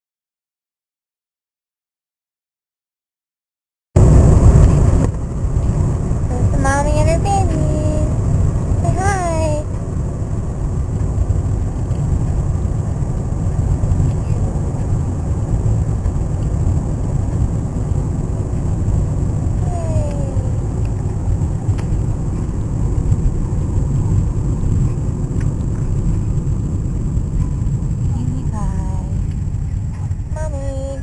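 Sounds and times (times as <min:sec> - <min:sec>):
car cabin road rumble: 0:04.0 - 0:31.0.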